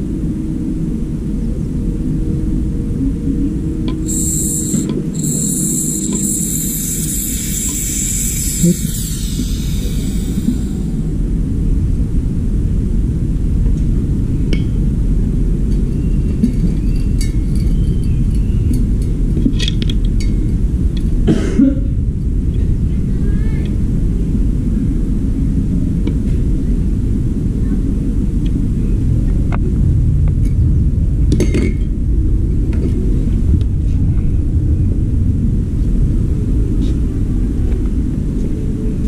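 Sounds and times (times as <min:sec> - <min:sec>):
steady low rumble: 0:00.0 - 0:17.6, 0:18.7 - 0:39.0.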